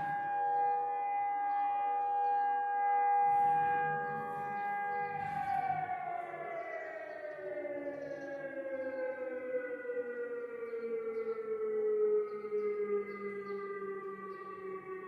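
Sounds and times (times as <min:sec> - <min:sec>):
air-raid siren winding down: 0:00.0 - 0:15.0.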